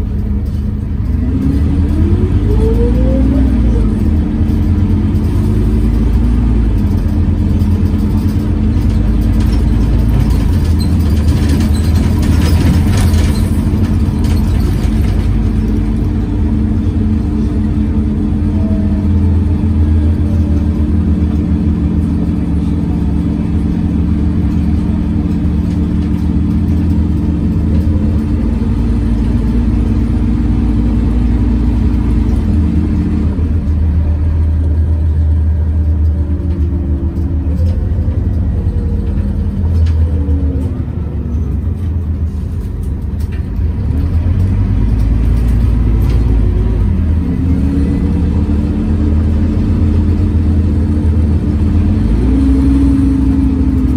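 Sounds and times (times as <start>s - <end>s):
bus engine cooling fan drone: 0.0s - 53.9s.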